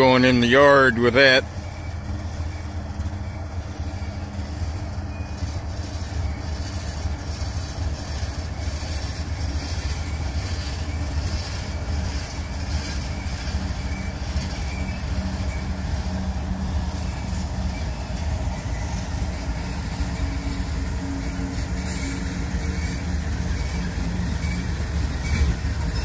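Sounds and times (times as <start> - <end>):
locomotive engine drone: 0.0 - 26.0
rail and wheel noise: 0.0 - 26.0.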